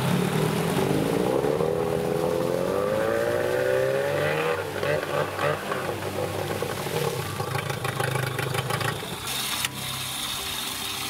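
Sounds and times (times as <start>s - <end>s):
outboard motor running: 0.0s - 11.0s
propeller churning water: 0.0s - 11.0s.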